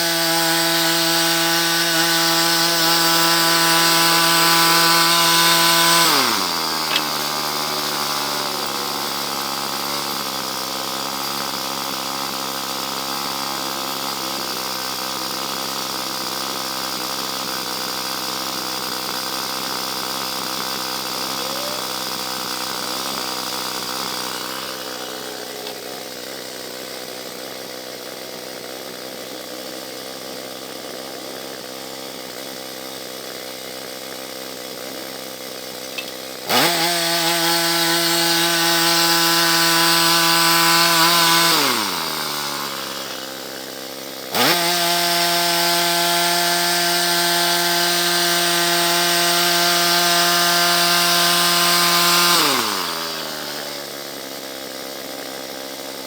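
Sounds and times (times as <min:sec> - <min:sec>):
sawmill gasoline engine running: 0:00.0 - 0:56.0.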